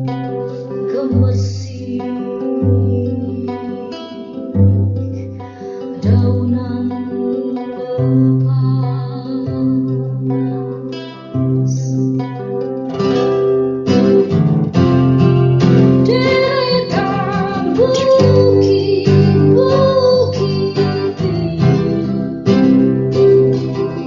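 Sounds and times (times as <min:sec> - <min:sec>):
acoustic guitar strumming: 0:00.0 - 0:24.0
woman singing with vibrato: 0:00.4 - 0:12.1, 0:16.0 - 0:24.0.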